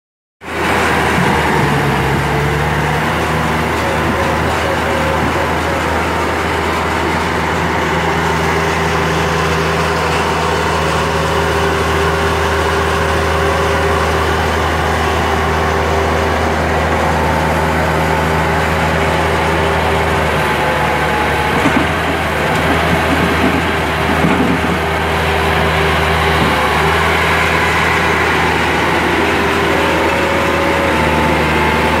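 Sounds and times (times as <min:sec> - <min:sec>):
diesel engine under load: 0:00.4 - 0:32.0.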